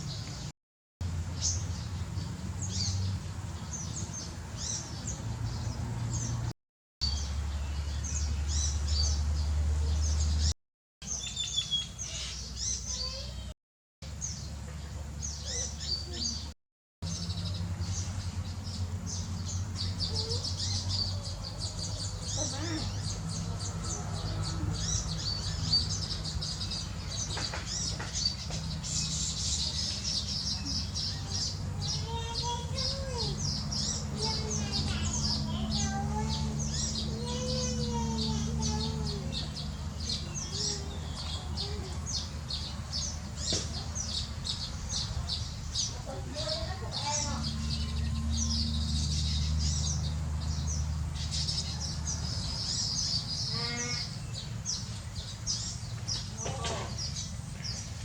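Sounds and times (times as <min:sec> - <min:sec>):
birds chattering: 0:01.4 - 0:58.0.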